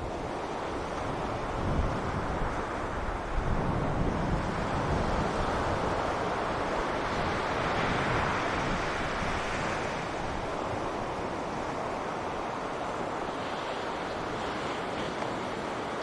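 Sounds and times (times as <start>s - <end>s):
waves washing on a beach: 0.0s - 16.0s
wind on the microphone: 0.0s - 16.0s.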